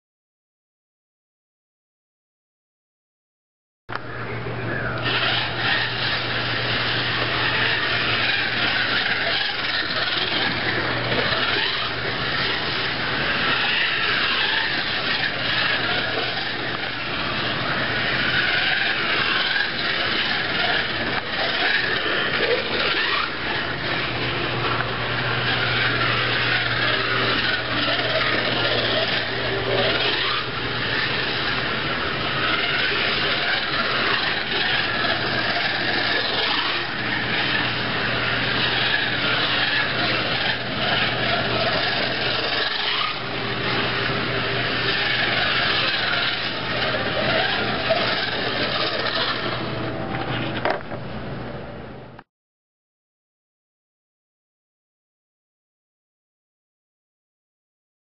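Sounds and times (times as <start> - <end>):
low hum: 3.9 - 52.2
slot car motor rushing: 4.2 - 51.4.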